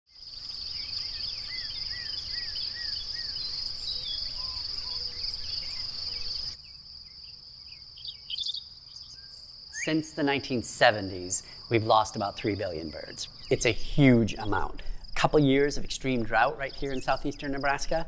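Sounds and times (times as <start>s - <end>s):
insects chorus: 0.1s - 18.0s
birds calling: 0.4s - 18.0s.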